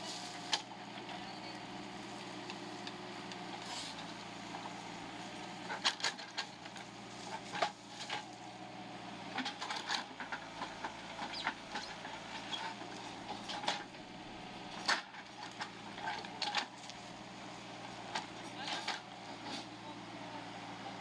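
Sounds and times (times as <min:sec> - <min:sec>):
diesel engine running: 0:00.0 - 0:21.0
excavator bucket digging soil: 0:02.3 - 0:08.5, 0:09.2 - 0:20.1.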